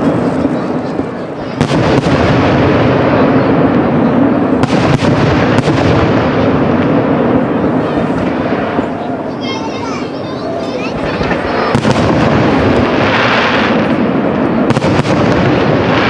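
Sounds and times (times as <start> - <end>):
sharp firework cracks: 0.0 - 16.0.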